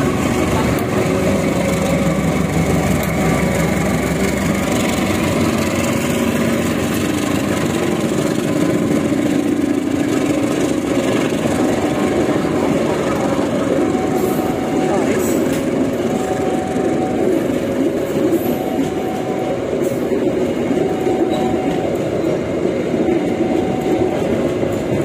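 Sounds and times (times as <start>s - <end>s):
locomotive engine running: 0.0s - 25.0s.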